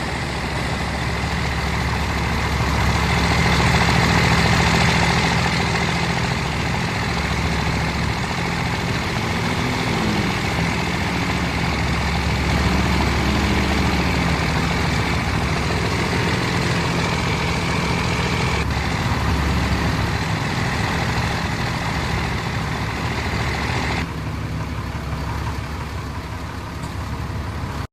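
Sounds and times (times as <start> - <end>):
truck engines idling: 0.0 - 27.9.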